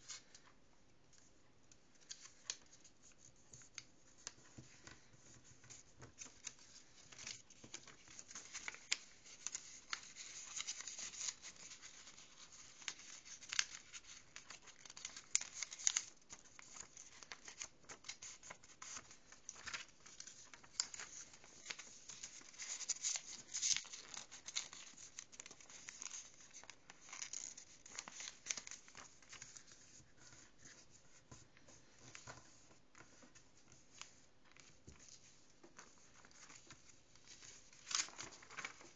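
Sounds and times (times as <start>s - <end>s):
paper rustling and crinkling: 0.0s - 38.9s.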